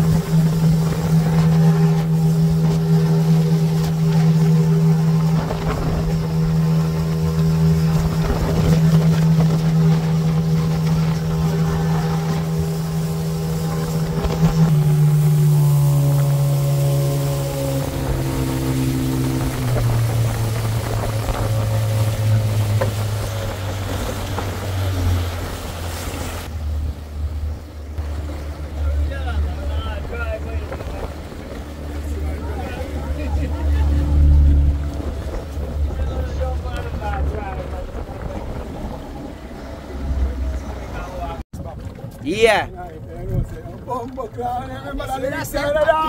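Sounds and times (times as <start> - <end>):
outboard motor: 0.0 - 46.0
wind and water rushing: 0.0 - 46.0.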